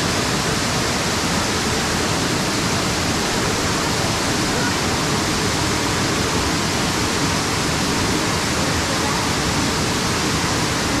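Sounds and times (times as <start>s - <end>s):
waterfall pouring onto rocks: 0.0s - 11.0s.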